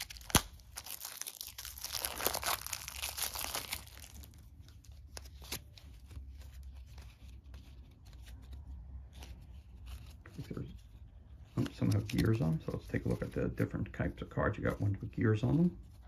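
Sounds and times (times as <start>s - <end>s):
crinkling and rustling: 0.0s - 13.7s.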